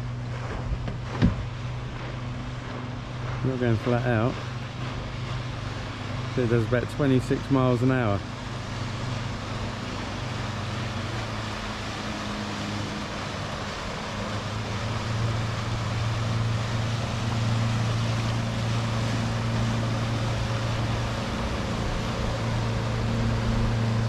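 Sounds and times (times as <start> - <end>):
outboard motor running: 0.0 - 24.0
wind and water rushing: 0.0 - 24.0.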